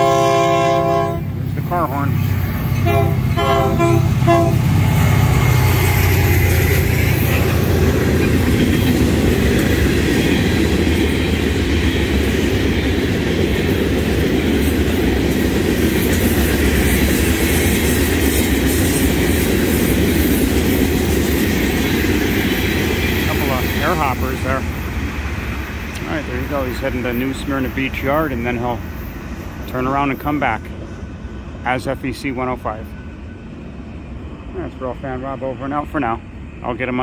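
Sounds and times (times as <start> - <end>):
diesel locomotive engines: 0.0 - 37.0
train wheels on rails: 0.0 - 37.0.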